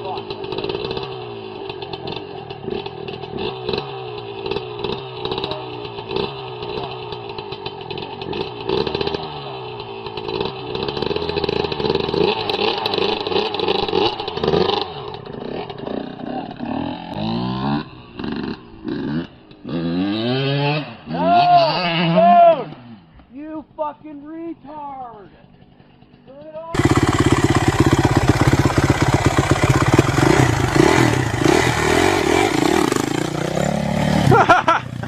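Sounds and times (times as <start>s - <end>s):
small motorcycle engine revving: 0.0s - 23.2s, 25.3s - 35.0s.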